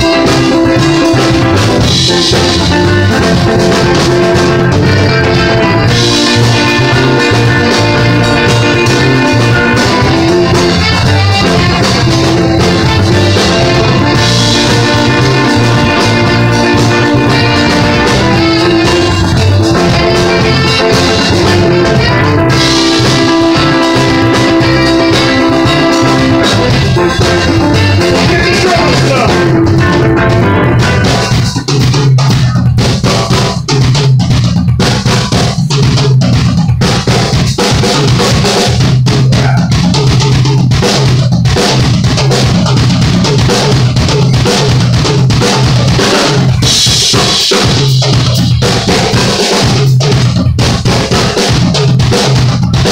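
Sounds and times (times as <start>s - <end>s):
drum kit hits: 0.0s - 52.9s
electric guitar: 0.0s - 52.9s.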